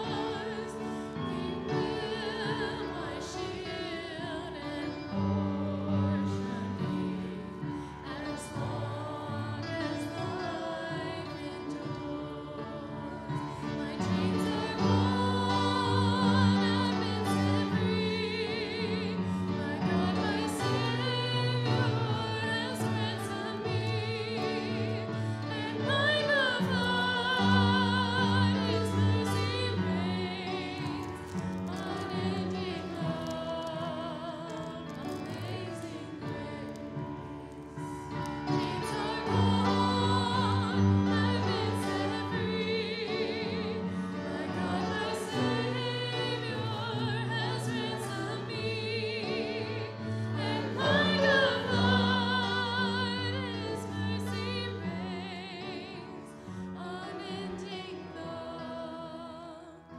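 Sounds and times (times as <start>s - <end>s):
congregation singing a hymn: 0.0s - 59.9s
grand piano accompaniment: 0.0s - 59.9s.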